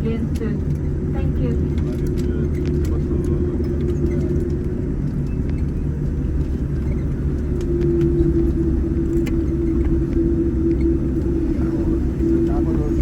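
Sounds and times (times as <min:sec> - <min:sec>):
airliner cabin rumble: 0:00.0 - 0:13.0
steady hum: 0:00.0 - 0:13.0.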